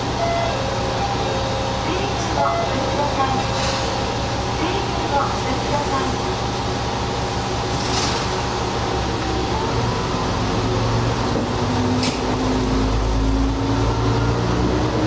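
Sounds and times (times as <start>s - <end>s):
diesel railcar engine: 0.0s - 15.0s.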